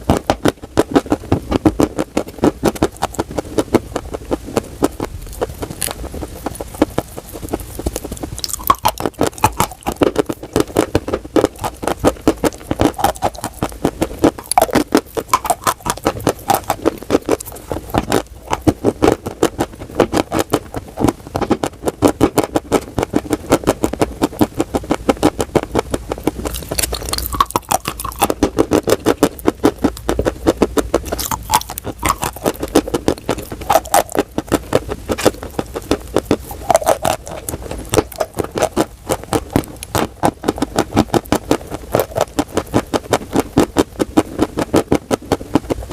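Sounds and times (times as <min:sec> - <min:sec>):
chalk being chewed crunching: 0:00.0 - 0:45.8.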